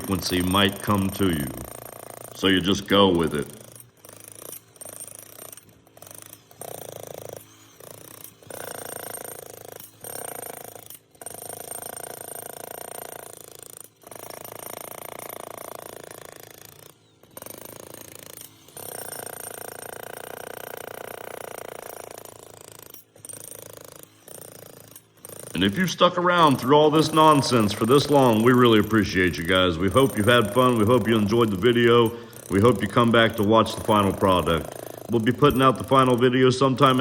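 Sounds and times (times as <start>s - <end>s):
jackhammer breaking concrete: 0.0s - 37.0s.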